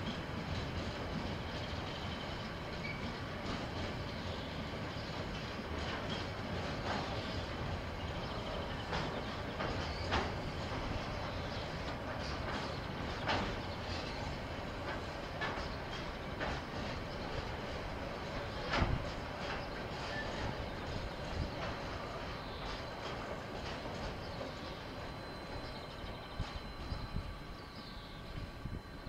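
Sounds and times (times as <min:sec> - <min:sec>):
wheels clacking over rail joints: 0:00.0 - 0:28.8
train running noise: 0:00.0 - 0:29.0.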